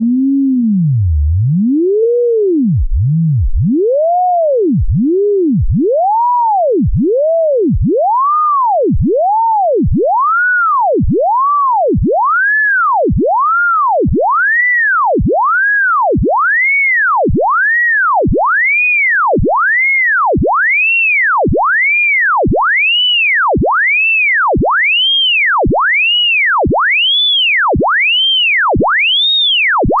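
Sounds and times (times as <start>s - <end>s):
electronic tone gliding up and down: 0.0s - 30.0s.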